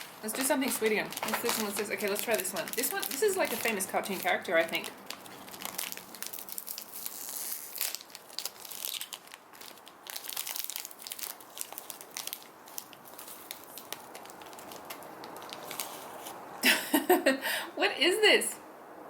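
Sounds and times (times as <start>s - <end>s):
plastic wrapper crinkling: 0.0s - 16.4s.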